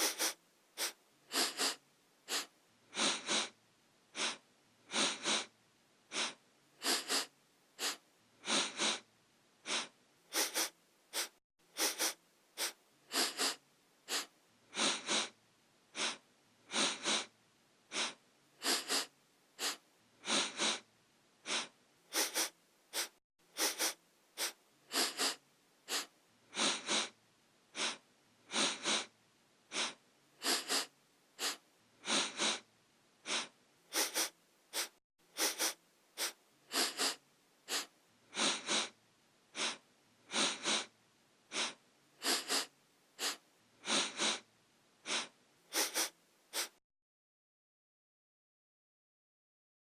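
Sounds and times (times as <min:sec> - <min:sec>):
person sniffing: 0:00.0 - 0:05.5, 0:06.1 - 0:17.3, 0:17.9 - 0:46.8.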